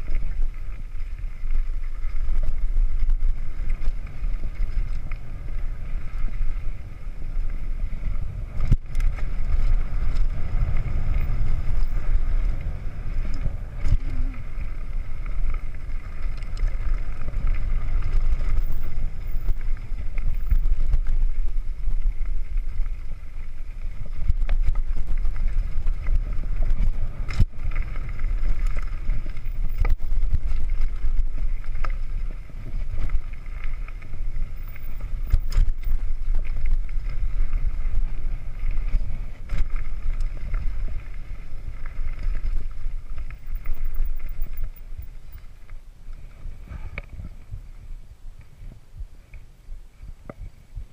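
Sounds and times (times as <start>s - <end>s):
bike rattling and knocking: 0.0s - 45.5s
tyre noise on dirt: 0.0s - 50.9s
wind buffeting microphone: 0.0s - 50.9s.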